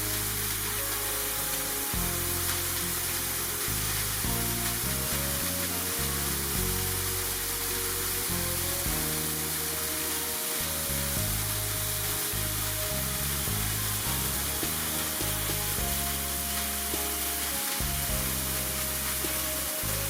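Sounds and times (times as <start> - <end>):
background music with bass: 0.0 - 20.0
sparkler candle hissing: 0.0 - 20.0.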